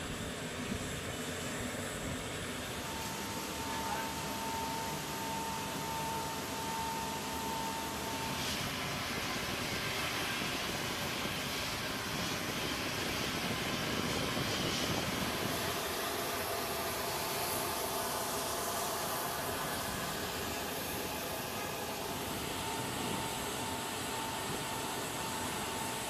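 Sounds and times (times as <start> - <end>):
faint high whine: 0.0 - 26.0
jet turbine roar: 0.0 - 26.0.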